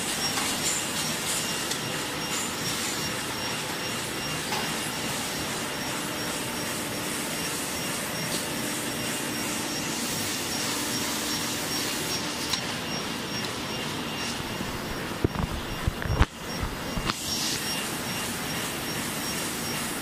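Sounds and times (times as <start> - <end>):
packing machinery whirring: 0.0 - 20.0.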